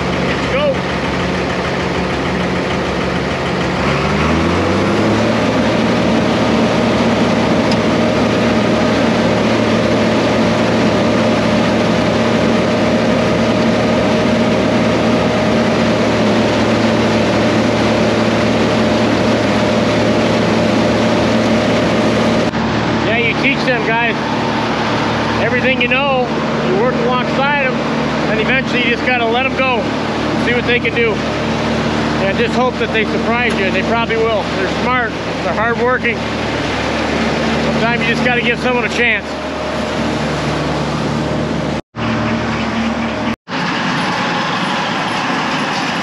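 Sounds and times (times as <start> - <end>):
silo blower running: 0.0 - 46.0
tractor diesel engine: 0.0 - 46.0.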